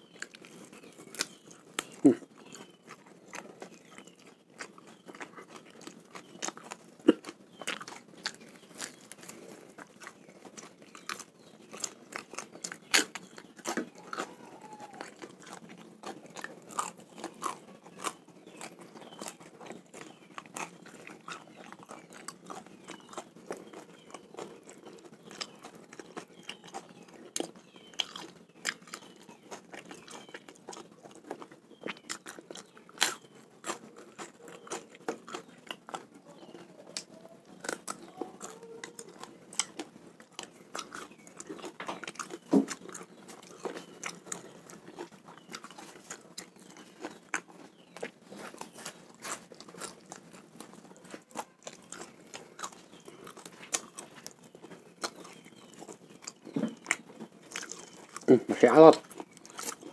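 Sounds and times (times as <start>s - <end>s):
chewing raw fish: 0.0s - 59.9s.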